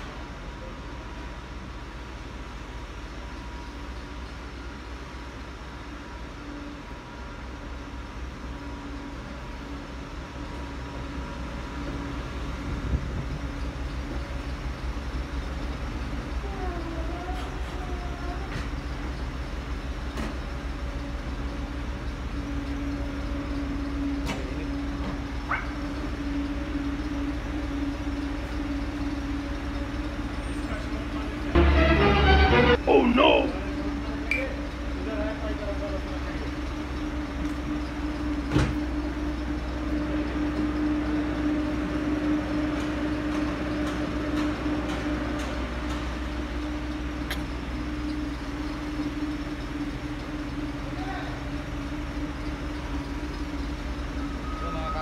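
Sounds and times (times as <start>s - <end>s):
refrigerated truck idling hum: 0.0s - 55.0s.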